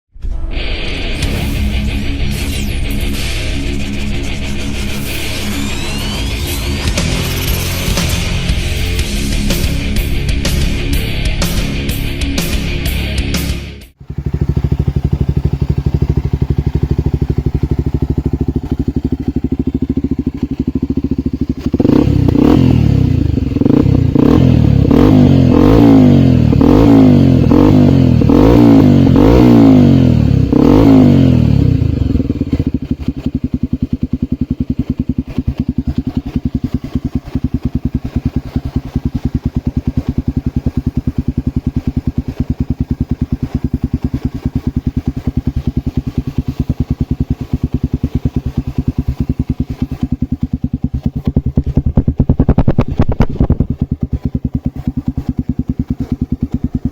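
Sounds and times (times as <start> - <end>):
motorcycle engine idling and revving: 1.1 - 56.9.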